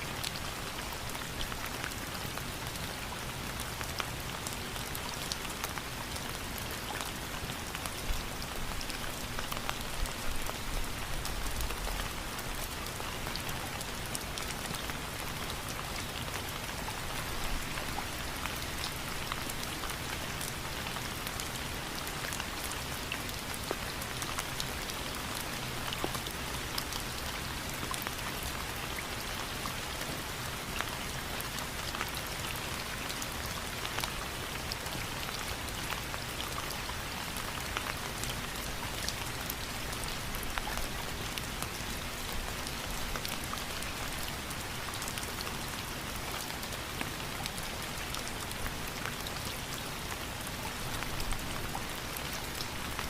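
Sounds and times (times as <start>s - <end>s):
steady rain pattering: 0.0s - 53.0s.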